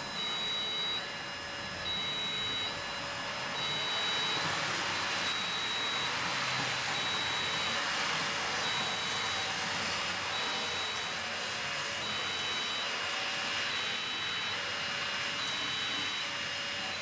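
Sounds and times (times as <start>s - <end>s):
two-tone siren: 0.0s - 7.9s, 8.6s - 17.0s.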